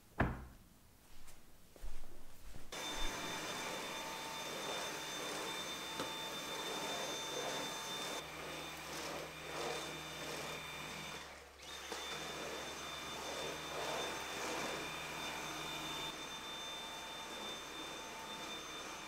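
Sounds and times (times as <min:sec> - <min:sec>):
cordless vacuum whining: 0:02.8 - 0:19.0.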